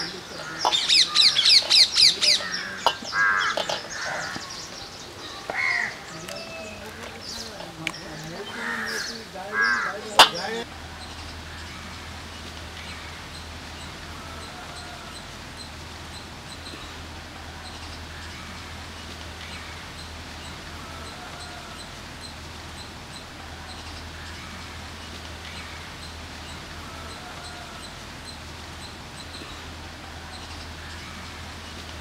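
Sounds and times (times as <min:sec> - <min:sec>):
small bird calling: 0:00.0 - 0:31.9
steady low hum: 0:05.9 - 0:32.0.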